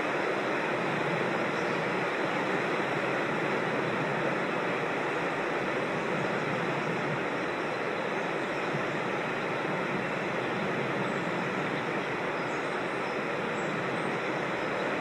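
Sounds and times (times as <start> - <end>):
creek rushing over small falls: 0.0 - 15.0.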